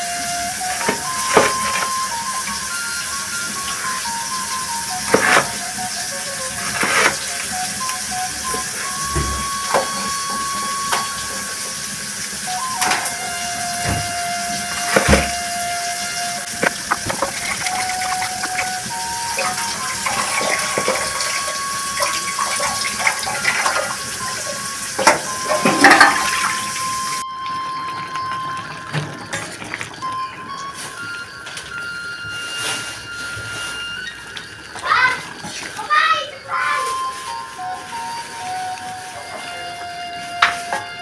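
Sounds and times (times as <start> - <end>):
tap water running and splashing: 0.0 - 32.5, 33.2 - 41.0.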